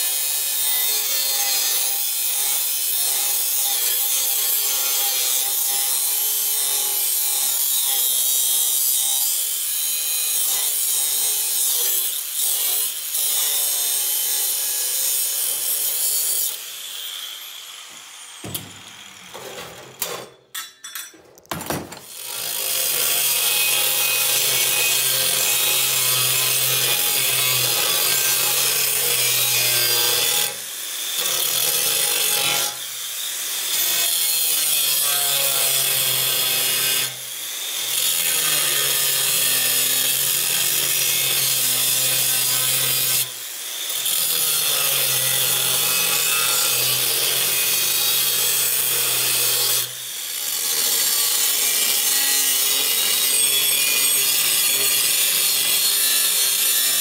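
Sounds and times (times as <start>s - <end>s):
angle grinder cutting steel: 0.0s - 21.1s, 22.0s - 57.0s.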